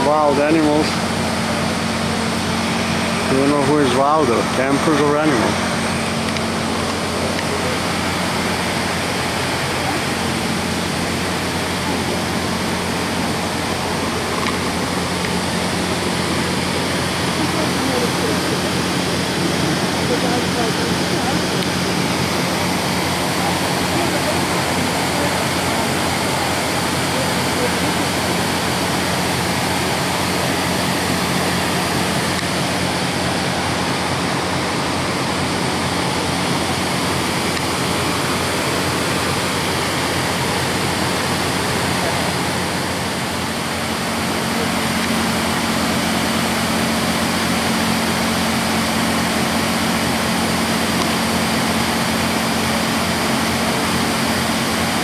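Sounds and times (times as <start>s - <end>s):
diesel engine hum: 0.0s - 55.0s
train running rumble: 0.0s - 55.0s.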